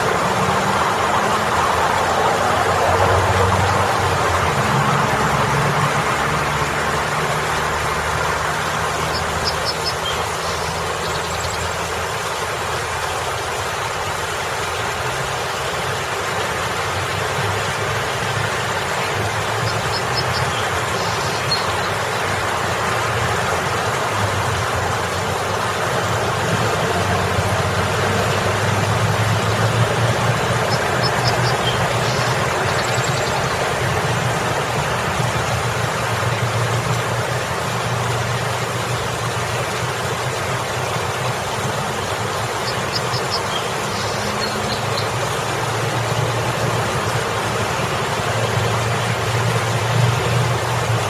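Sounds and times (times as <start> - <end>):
road traffic rumble: 0.0 - 51.0
water splashing down rocks: 0.0 - 51.0.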